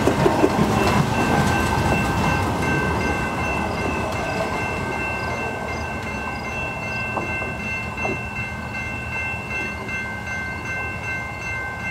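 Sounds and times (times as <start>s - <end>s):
passenger train rumble: 0.0s - 11.9s
high ringing tones: 0.4s - 11.9s.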